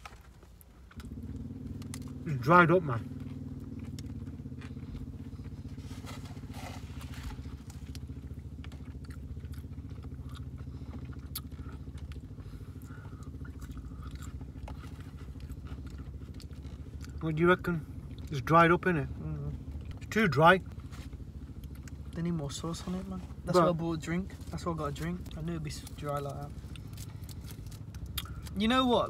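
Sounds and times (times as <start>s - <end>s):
close chewing: 0.0s - 2.4s, 3.0s - 18.4s, 20.8s - 28.7s
car engine idling: 0.0s - 29.0s.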